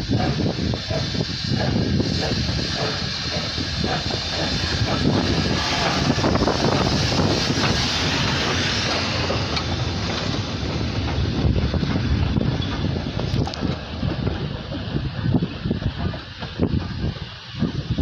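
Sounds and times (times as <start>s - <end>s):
train rumbling by: 0.0s - 18.0s
wind buffeting microphone: 0.0s - 18.0s.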